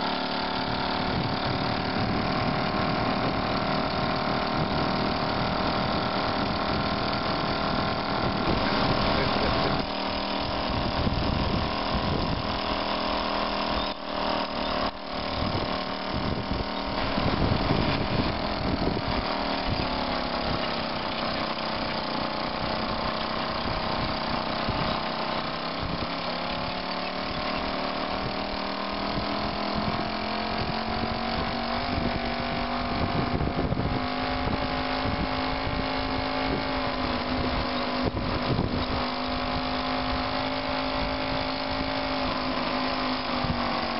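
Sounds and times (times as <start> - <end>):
moped engine running: 0.0 - 43.9.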